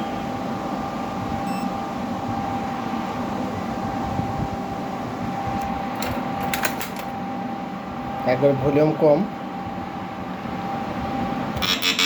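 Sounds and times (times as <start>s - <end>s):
inverter electrical hum: 0.0s - 12.0s.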